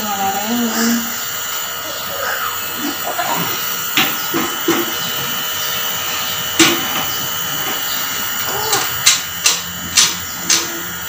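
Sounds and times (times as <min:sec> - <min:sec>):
nebulizer compressor running: 0:00.0 - 0:11.0.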